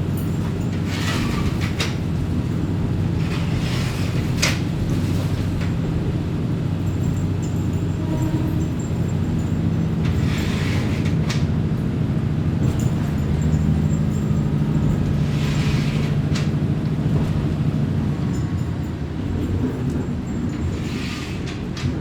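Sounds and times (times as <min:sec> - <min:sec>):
train engine drone: 0:00.0 - 0:22.0.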